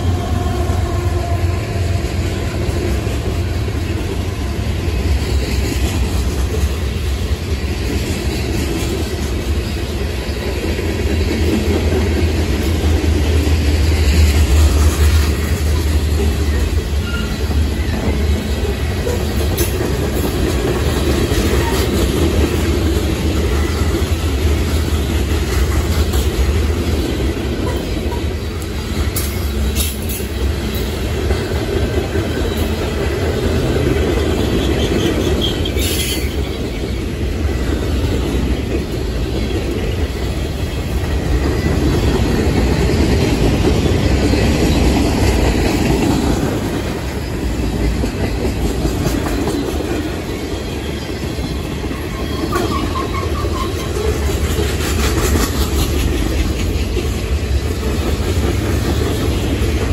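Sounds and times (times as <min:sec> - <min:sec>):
freight train rumbling: 0:00.0 - 0:59.9
wheels clacking over rail joints: 0:00.0 - 0:59.9.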